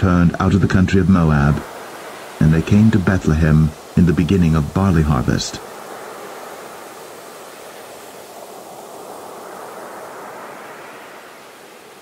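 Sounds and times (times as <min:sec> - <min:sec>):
waves breaking: 0:00.0 - 0:12.0.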